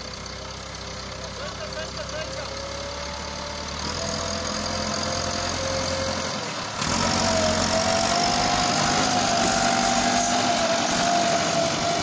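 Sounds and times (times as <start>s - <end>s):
tractor diesel engine labouring: 0.0s - 12.0s.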